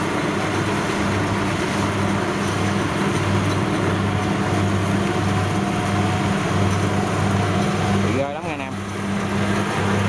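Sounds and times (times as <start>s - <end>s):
combine harvester engine droning: 0.0s - 10.0s.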